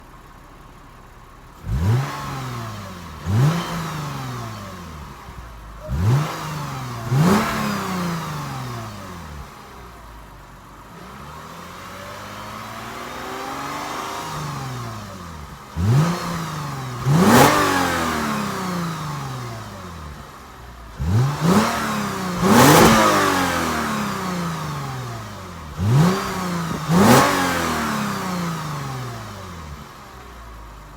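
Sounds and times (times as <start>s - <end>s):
car engine revving: 1.4s - 30.9s.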